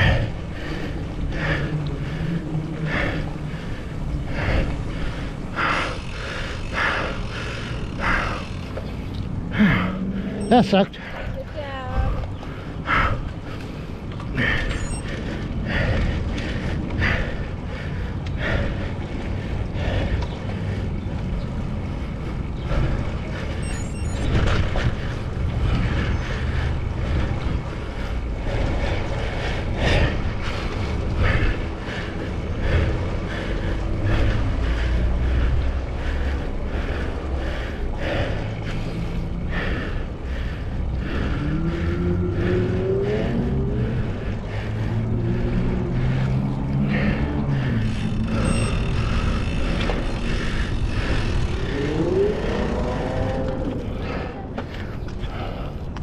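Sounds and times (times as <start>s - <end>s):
road noise: 0.0s - 56.0s
wind buffeting microphone: 0.0s - 56.0s.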